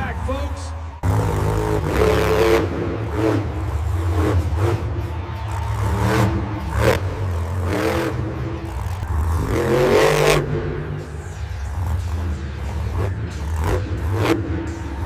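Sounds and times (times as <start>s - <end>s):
truck engine revving: 0.8s - 15.0s.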